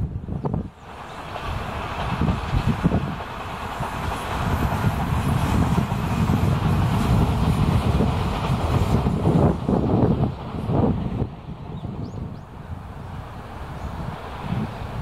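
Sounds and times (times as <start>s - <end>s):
electric train running past: 0.0s - 15.0s.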